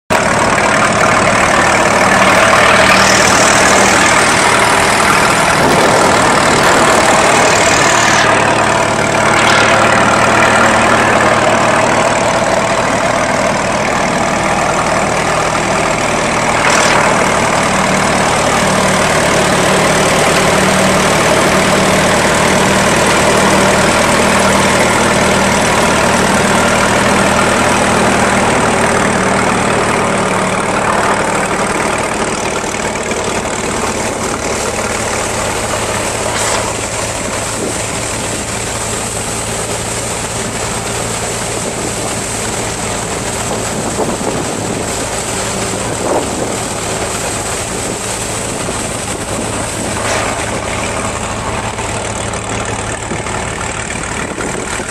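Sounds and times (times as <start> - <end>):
tractor engine running: 0.1 - 54.9
threshing machine rattling hiss: 0.6 - 54.7.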